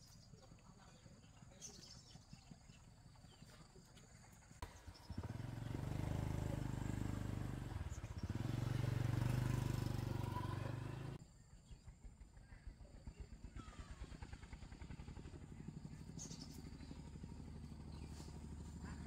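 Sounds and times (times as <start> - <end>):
small engine running: 0.5 - 19.0.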